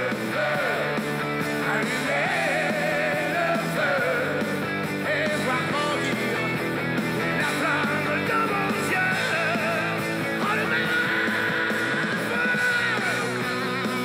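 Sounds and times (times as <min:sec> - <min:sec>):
person singing: 0:00.0 - 0:01.0, 0:01.6 - 0:06.6, 0:07.2 - 0:14.0
rock band playing: 0:00.0 - 0:14.0.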